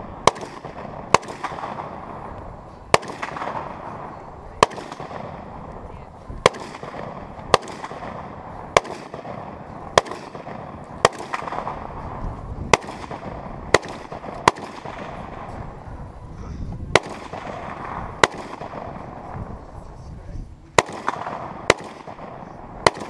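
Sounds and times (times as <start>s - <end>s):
rifle shots: 0.0s - 15.6s, 16.9s - 19.4s, 20.7s - 23.0s.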